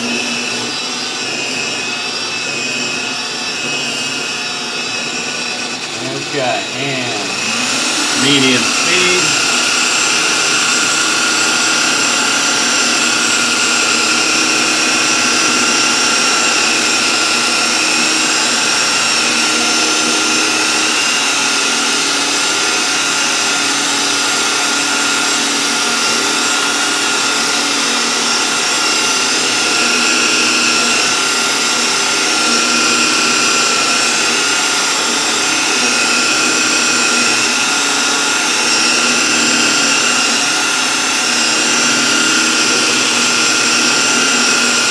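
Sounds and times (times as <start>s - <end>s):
electric polisher whining: 0.0s - 44.9s.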